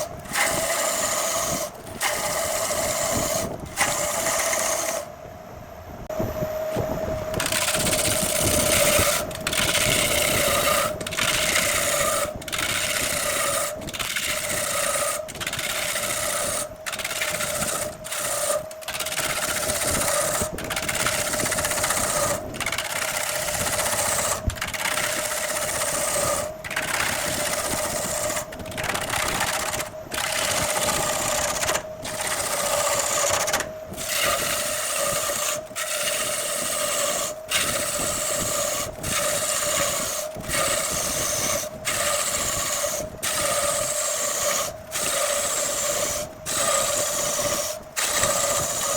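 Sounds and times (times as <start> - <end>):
turning tool cutting wood: 0.0 - 5.1, 7.3 - 48.9
wood lathe motor hum: 0.0 - 5.1, 7.2 - 48.9.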